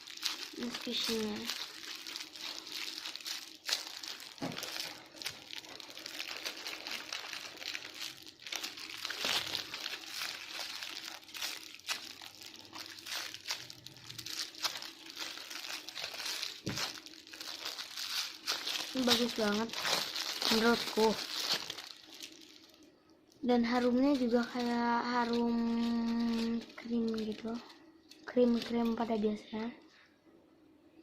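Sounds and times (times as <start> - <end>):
wrapping crinkling and crumpling: 0.0 - 30.1.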